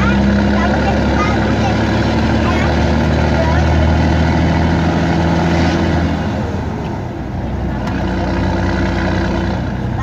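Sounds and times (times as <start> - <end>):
truck diesel engine from cab: 0.0 - 10.0.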